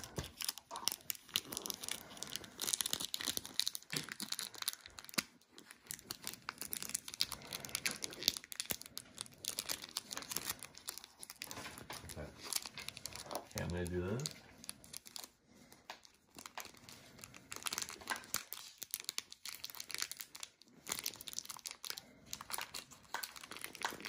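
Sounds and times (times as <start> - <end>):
paper and plastic packaging crinkling: 0.0 - 24.0.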